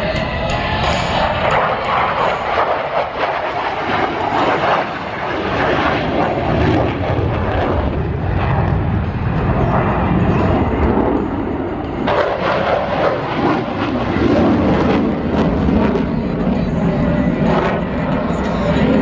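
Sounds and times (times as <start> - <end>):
aircraft engine roar: 0.0 - 19.0.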